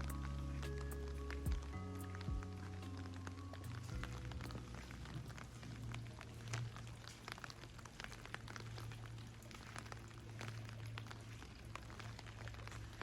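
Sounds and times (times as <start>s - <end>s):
raindrops dripping and pattering: 0.0s - 13.0s.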